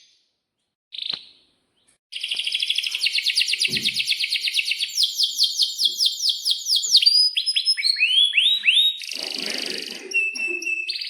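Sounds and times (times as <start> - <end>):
canary singing: 2.1 - 11.0.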